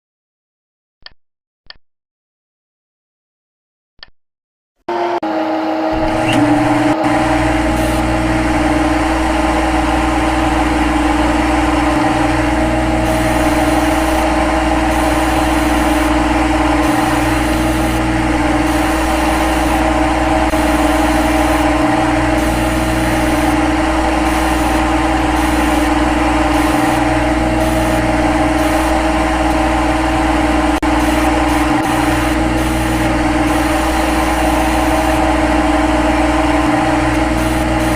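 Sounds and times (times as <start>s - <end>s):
lathe humming and whining: 4.9s - 37.9s.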